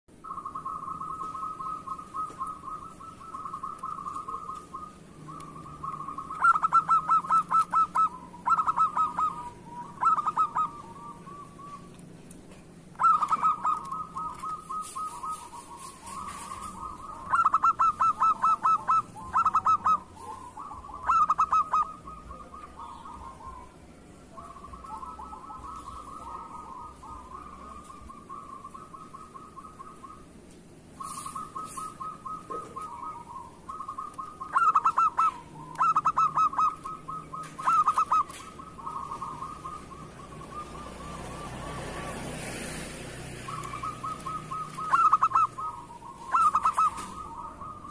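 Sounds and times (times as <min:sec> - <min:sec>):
dove cooing: 0:00.1 - 0:47.9.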